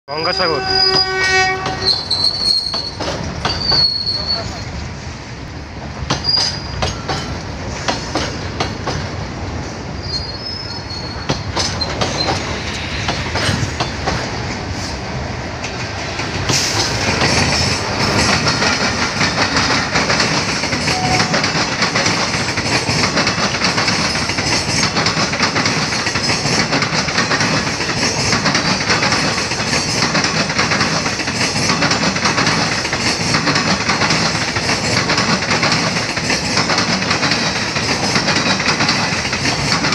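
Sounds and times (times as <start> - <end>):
train rumble and hiss: 0.1 - 39.9
train wheels clicking over rail joints: 0.8 - 4.9, 5.8 - 39.9.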